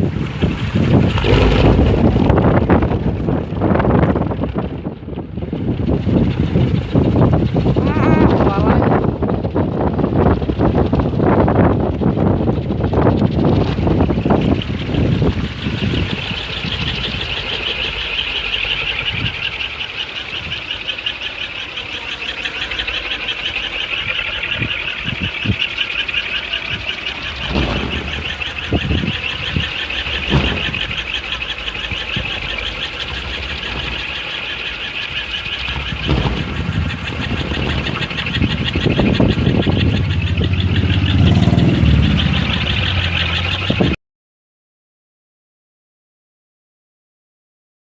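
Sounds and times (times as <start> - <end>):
propeller rattle whirring: 0.0 - 44.0
wind buffeting: 0.0 - 44.0.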